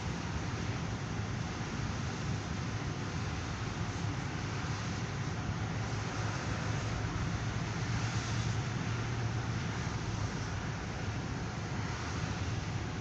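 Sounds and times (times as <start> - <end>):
low constant hum: 0.0 - 13.0
traffic road noise: 0.0 - 13.0.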